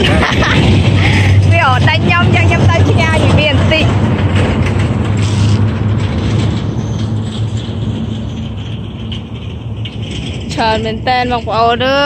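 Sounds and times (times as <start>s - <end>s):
rattling hissing noise: 0.2s - 12.0s.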